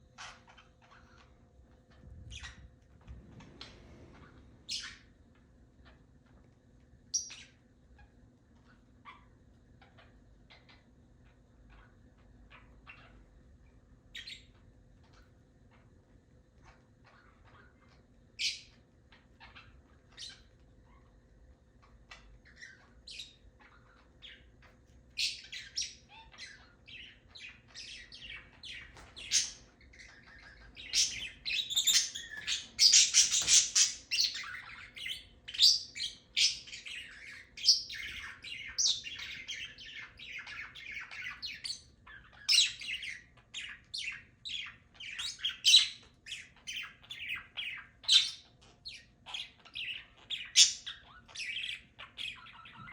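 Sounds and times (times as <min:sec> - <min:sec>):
parrots chirping and squawking: 0:00.2 - 0:05.1, 0:07.2 - 0:13.3, 0:16.6 - 0:21.2, 0:21.8 - 0:52.9.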